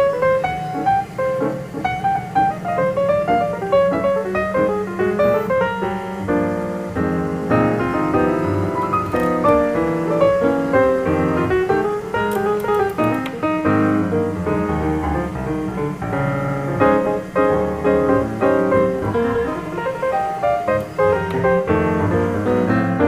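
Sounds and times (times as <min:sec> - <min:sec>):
piano background music: 0:00.0 - 0:23.0.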